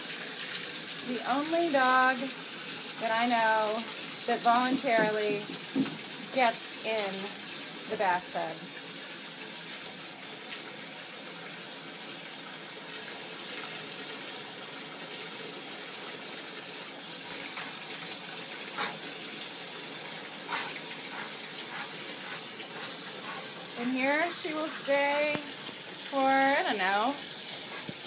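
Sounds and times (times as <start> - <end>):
tap water running into tub: 0.0 - 28.0.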